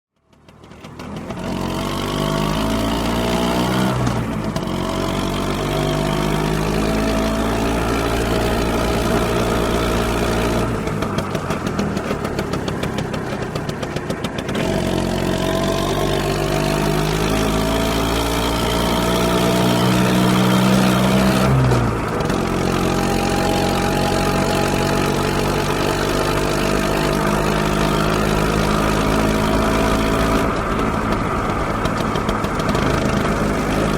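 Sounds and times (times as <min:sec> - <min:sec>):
scooter engine revving: 0:00.2 - 0:33.9.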